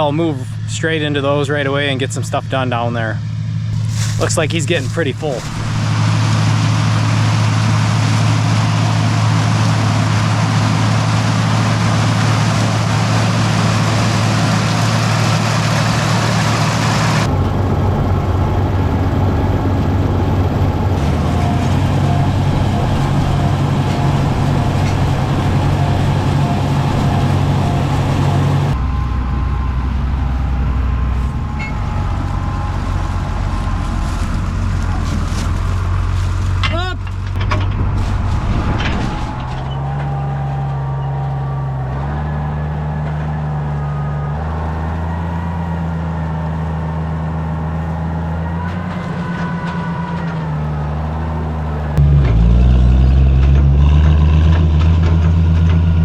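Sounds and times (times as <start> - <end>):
tractor engine droning: 0.0 - 56.0.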